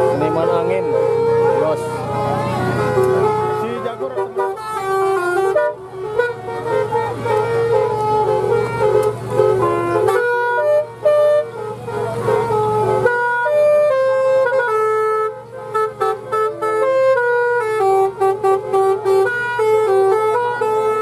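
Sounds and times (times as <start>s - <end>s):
bus musical horn tune: 0.0s - 21.0s.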